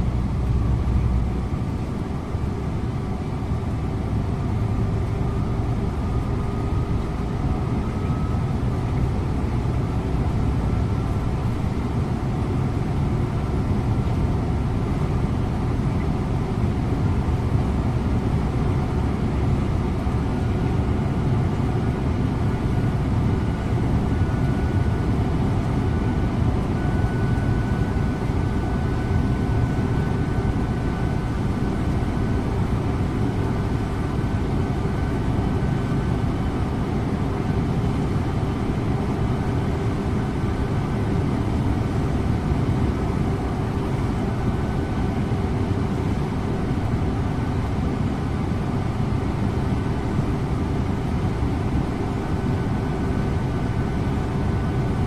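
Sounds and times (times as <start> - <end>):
bus engine and tyre rumble: 0.0 - 55.0.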